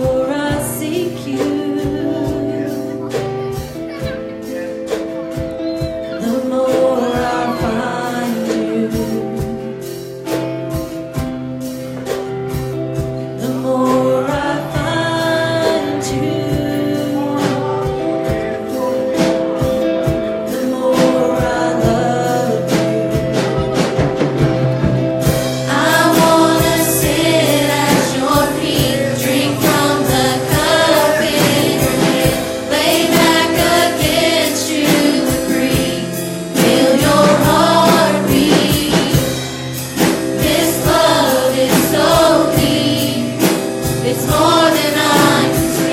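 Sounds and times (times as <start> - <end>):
congregation singing gospel: 0.0 - 45.9
instrumental accompaniment: 0.0 - 45.9.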